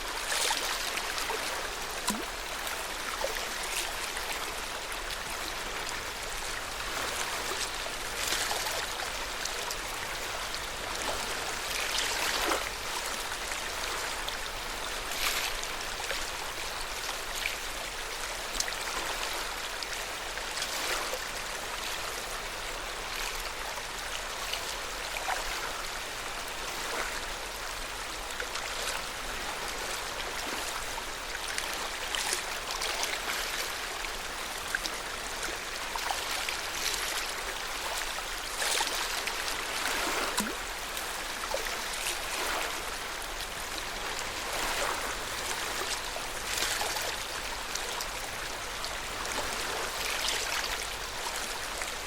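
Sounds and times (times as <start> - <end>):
water lapping at shore: 0.0 - 52.0.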